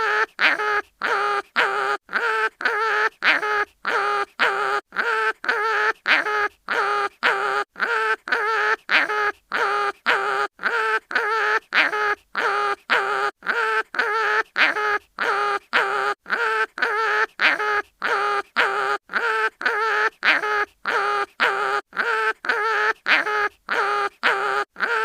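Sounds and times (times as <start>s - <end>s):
cartoon animal whimpering cry: 0.0s - 25.0s.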